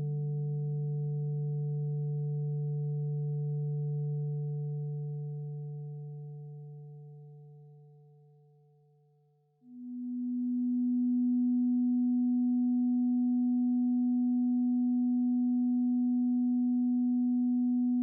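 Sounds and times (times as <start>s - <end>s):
electronic sine tone drone: 0.0s - 7.4s, 9.7s - 18.0s.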